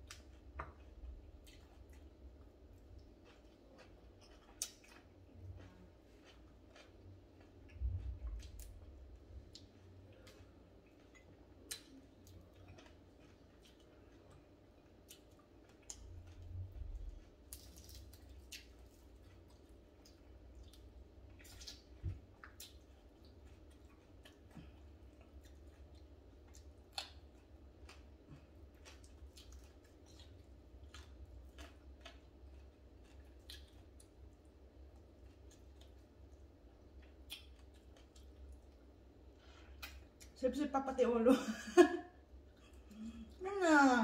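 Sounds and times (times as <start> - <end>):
wet eating clicks and smacks: 0.0 - 40.4
low steady hum: 0.0 - 44.0.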